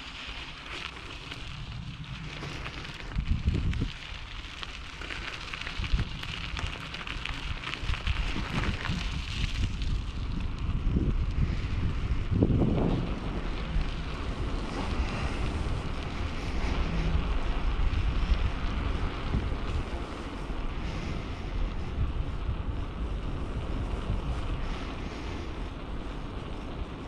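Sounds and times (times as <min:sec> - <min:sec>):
bicycle rolling noise: 0:00.0 - 0:27.0
wind buffeting microphone: 0:00.0 - 0:27.0.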